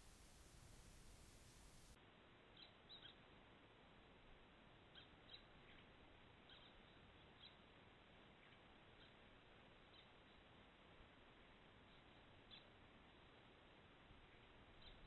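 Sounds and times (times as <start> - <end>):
faint small bird chirps: 0.0 - 15.0
microphone hiss: 0.0 - 15.0.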